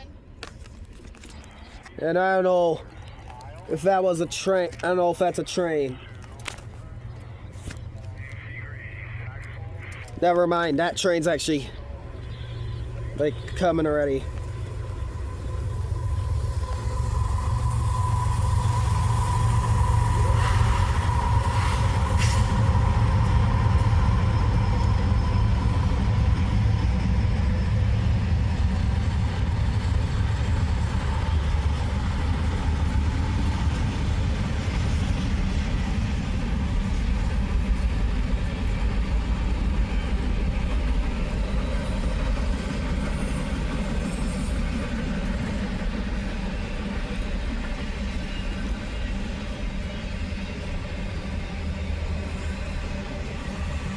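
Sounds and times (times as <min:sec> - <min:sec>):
freight train rumbling: 0:00.0 - 0:53.9.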